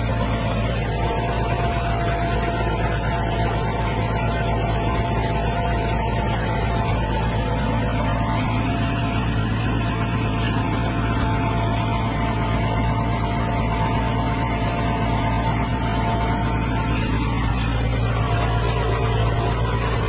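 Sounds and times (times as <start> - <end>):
high whine: 0.0 - 20.0
tractor diesel engine under load: 0.0 - 20.0.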